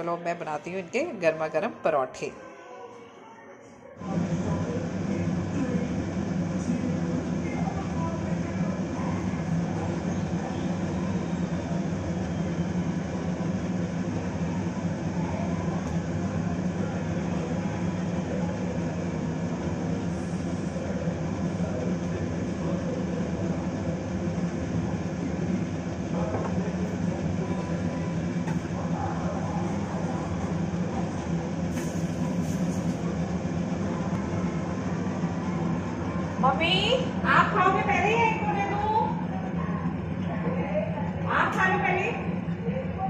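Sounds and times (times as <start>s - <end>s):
kitchen fan droning: 0.0s - 2.9s, 3.8s - 43.0s.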